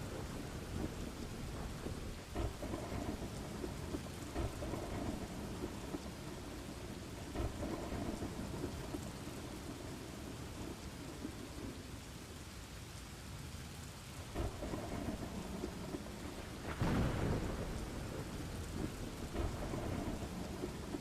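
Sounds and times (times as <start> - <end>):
thunder rumbling: 0.0 - 12.0, 14.2 - 21.0
steady rain falling: 0.0 - 21.0.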